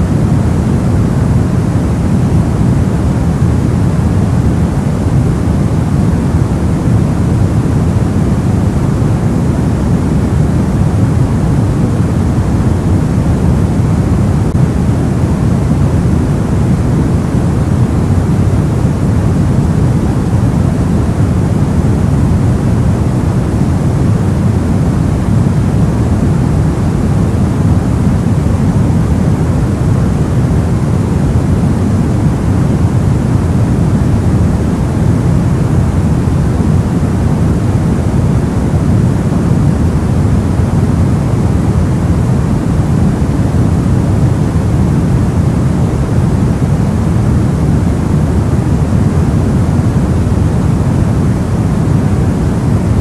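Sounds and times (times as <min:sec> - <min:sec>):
soft low white noise: 0:00.0 - 0:53.0.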